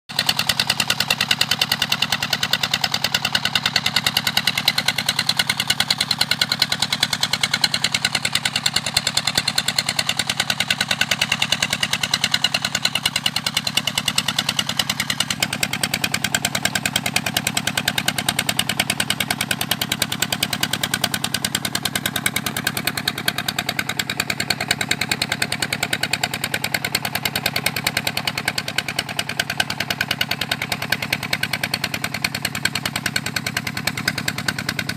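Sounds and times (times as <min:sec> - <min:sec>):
suction pump engine running: 0:00.1 - 0:34.9.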